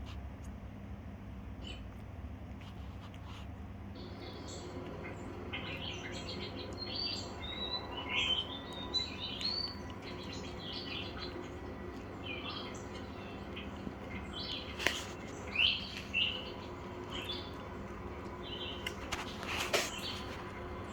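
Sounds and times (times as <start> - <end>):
songbirds chirping and twittering: 4.0 - 20.9.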